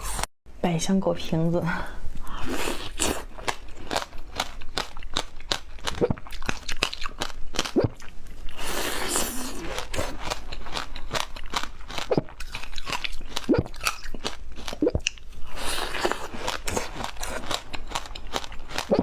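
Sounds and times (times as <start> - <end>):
ice crunching in mouth: 2.6 - 19.0.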